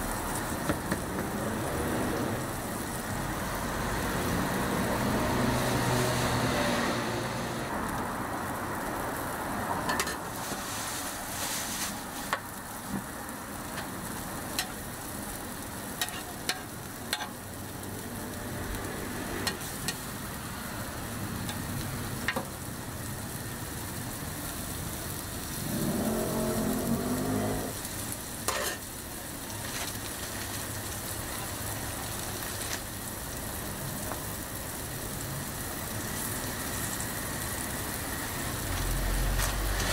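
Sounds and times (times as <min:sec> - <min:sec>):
patties sizzling on griddle: 0:00.0 - 0:39.9.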